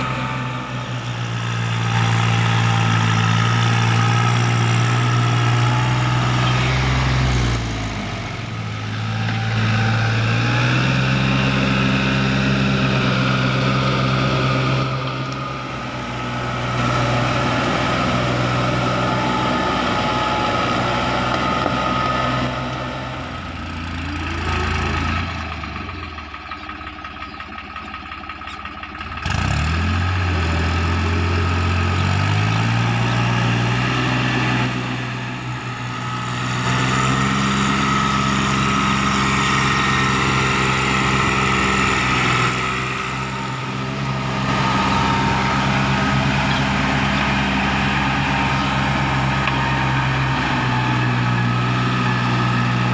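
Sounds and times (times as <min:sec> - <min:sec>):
tractor engine under load: 0:00.0 - 0:52.9.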